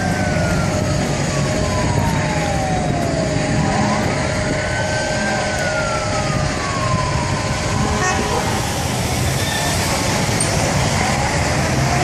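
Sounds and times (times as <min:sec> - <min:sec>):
emergency siren wailing: 0:00.0 - 0:12.0
street traffic rumble: 0:00.0 - 0:12.0.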